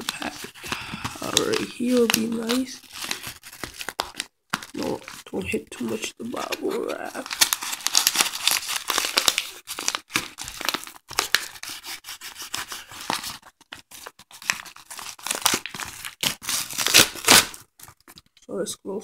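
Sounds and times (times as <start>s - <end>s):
paper and bubble wrap tearing: 0.0s - 18.3s.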